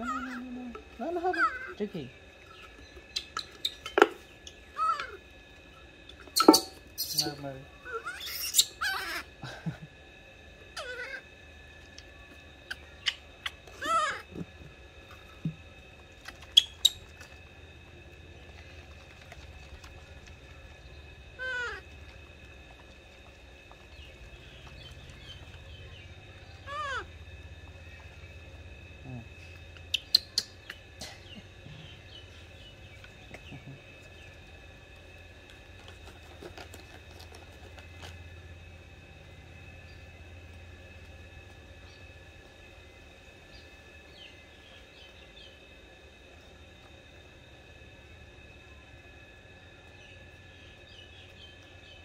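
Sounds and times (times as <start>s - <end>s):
faint high whine: 0.0s - 52.0s
low hum: 0.0s - 52.0s.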